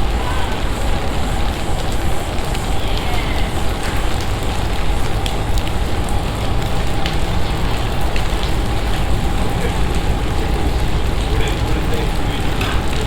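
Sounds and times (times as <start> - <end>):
heavy rain hiss: 0.0 - 13.0
raindrop ticks: 0.0 - 13.0.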